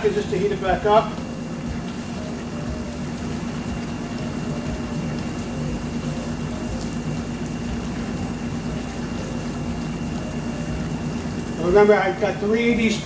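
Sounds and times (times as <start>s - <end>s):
sauce simmering in a pan: 0.0s - 13.0s
steady low hum: 0.0s - 13.0s.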